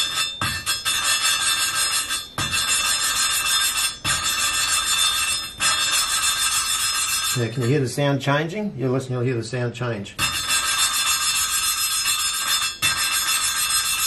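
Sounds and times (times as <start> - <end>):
valve rasping against metal seat: 0.0 - 7.6, 10.2 - 14.0.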